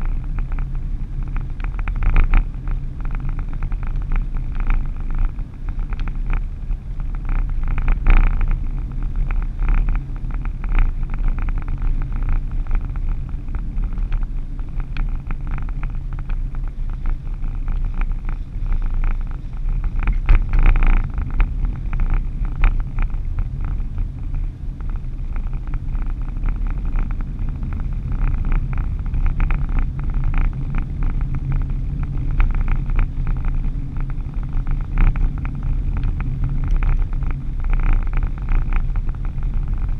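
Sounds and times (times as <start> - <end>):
road and engine rumble: 0.0 - 39.9
small clicks and rattles: 0.0 - 39.9.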